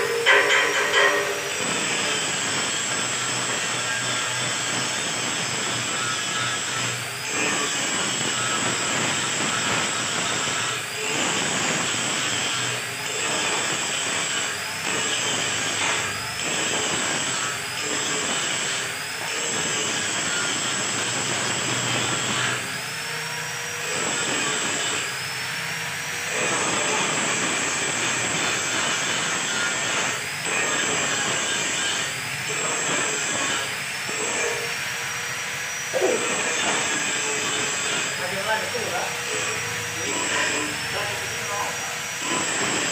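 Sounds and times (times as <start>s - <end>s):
angle grinder grinding steel: 0.0s - 42.9s.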